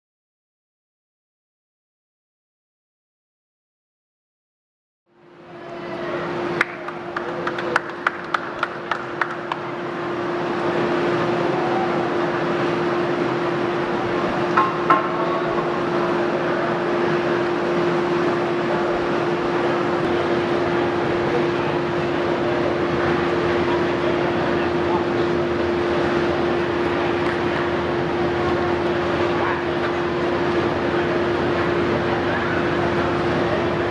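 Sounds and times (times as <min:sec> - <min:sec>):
constant hum: 0:05.1 - 0:33.9
air blower roaring: 0:05.3 - 0:33.9.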